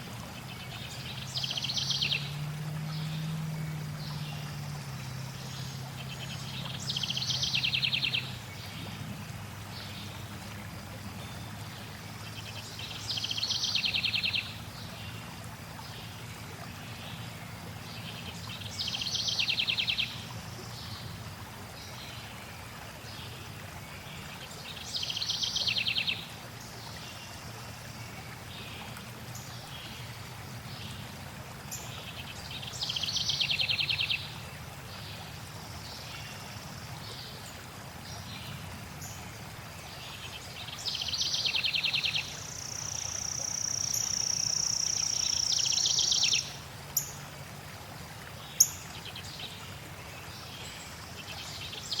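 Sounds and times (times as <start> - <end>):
flowing water: 0.0 - 52.0.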